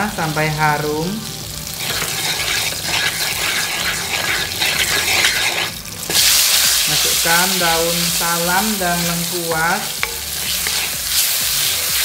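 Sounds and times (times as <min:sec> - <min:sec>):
oil sizzling in a wok: 0:00.0 - 0:12.0
wooden spatula scraping a pan: 0:01.7 - 0:12.0.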